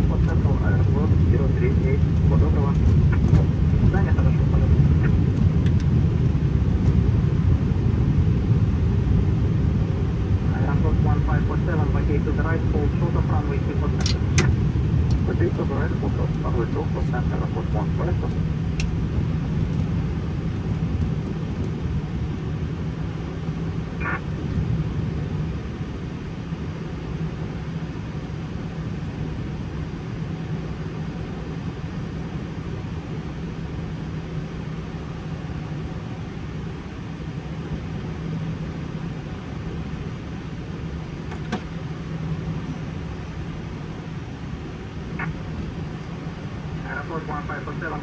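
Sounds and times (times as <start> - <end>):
cockpit engine drone: 0.0 - 48.0.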